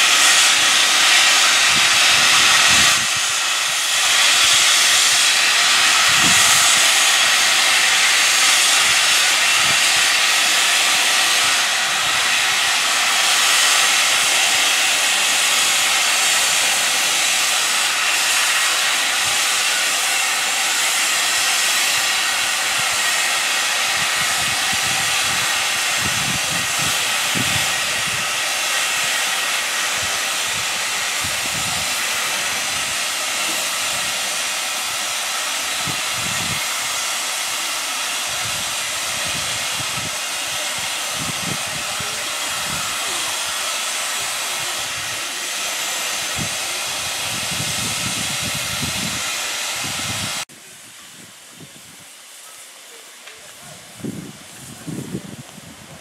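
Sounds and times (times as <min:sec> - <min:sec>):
steam hissing from locomotive: 0:00.0 - 0:56.0.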